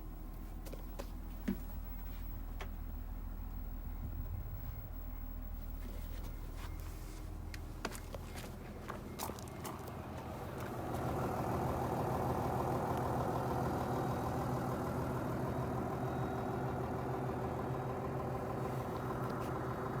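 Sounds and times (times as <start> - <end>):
bus diesel engine idling: 0.0 - 20.0.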